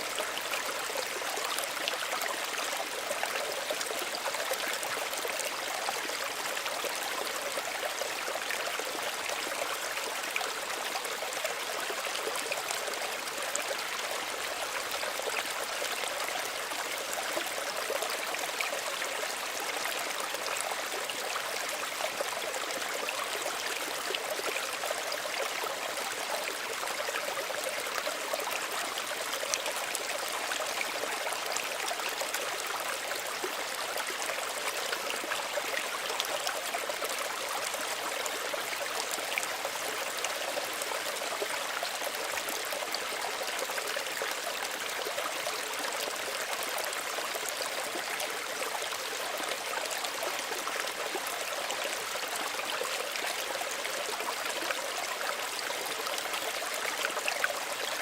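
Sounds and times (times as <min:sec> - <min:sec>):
stream trickling over stones: 0:00.0 - 0:58.0.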